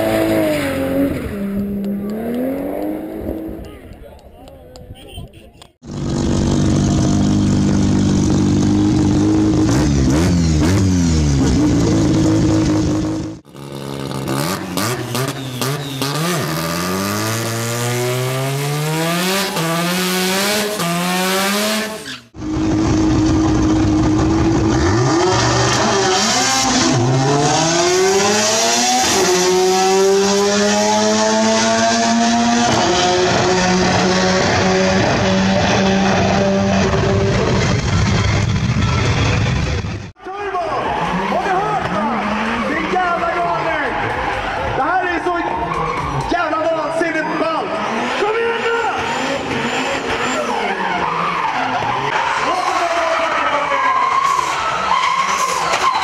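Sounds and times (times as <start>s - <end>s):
rotary engine revving high: 0.0s - 4.0s, 5.8s - 40.1s, 40.8s - 44.8s, 46.9s - 55.7s.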